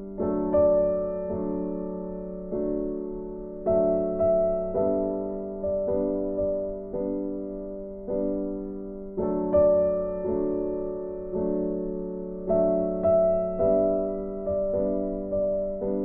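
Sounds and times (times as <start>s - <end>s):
gentle electric piano melody: 0.0s - 16.0s.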